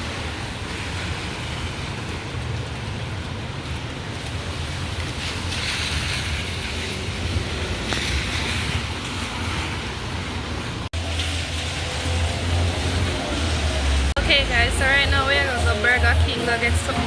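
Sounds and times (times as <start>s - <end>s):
car driving on wet road: 0.0s - 17.0s.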